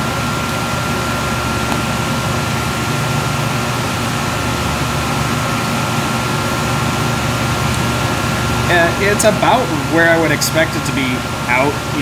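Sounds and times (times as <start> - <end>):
ventilation fan whirring: 0.0 - 12.0.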